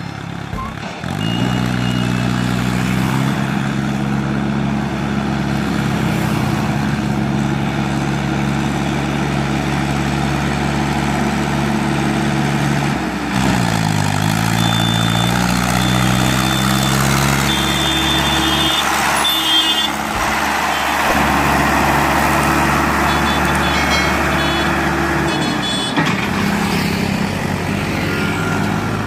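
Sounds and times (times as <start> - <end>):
diesel tractor engines under load: 0.0 - 29.0.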